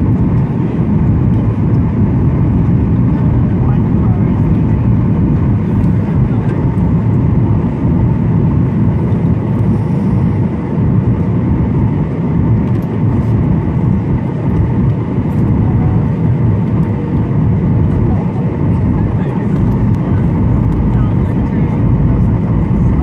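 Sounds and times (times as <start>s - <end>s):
airplane cabin roar: 0.0s - 23.0s.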